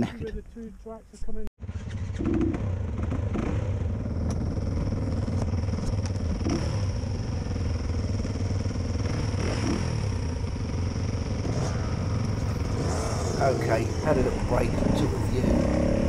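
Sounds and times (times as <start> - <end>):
motorcycle engine running: 1.6 - 16.0
other dirt bikes running: 1.6 - 16.0.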